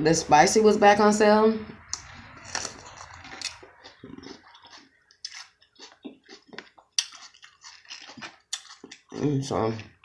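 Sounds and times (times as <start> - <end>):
wet chewing and lip smacks: 1.9 - 10.0.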